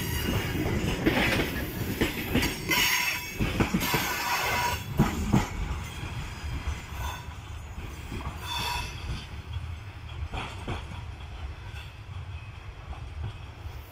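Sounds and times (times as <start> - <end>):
freight train rumbling: 0.0 - 13.9
wheels clacking over rail joints: 0.0 - 13.9.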